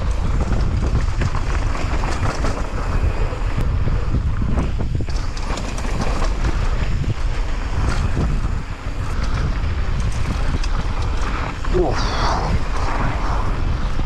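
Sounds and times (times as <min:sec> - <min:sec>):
bike rattling clicks and knocks: 0:00.0 - 0:11.8
wind buffeting microphone: 0:00.0 - 0:14.0.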